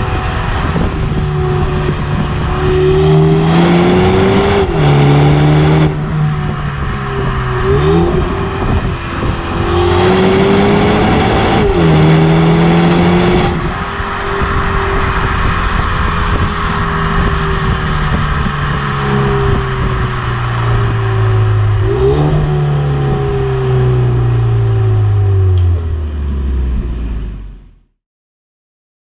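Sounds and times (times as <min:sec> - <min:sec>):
car engine accelerating: 0:00.0 - 0:27.9.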